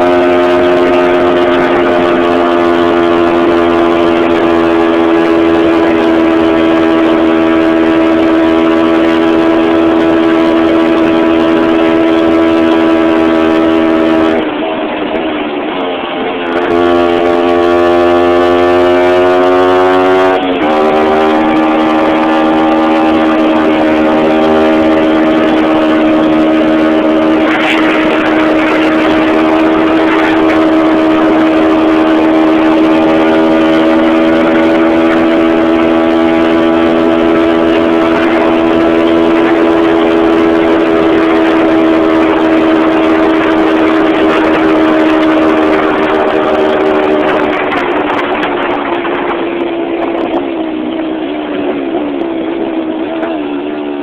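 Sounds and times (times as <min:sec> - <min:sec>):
two-stroke motorcycle engine running: 0:00.0 - 0:54.0.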